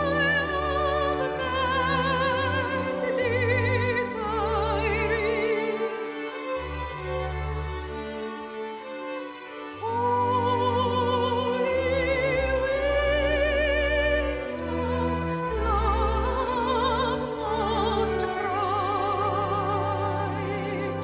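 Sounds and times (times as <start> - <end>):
operatic soprano singing: 0.0 - 7.5, 9.5 - 21.0
orchestral accompaniment: 0.0 - 21.0.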